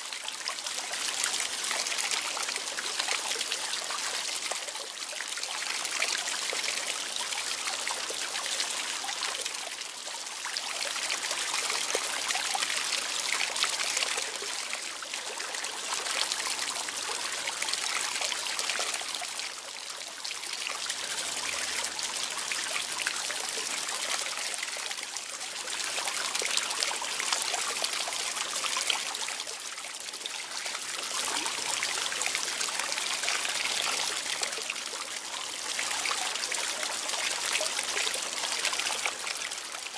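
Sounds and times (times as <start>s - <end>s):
water trickling: 0.3s - 39.9s.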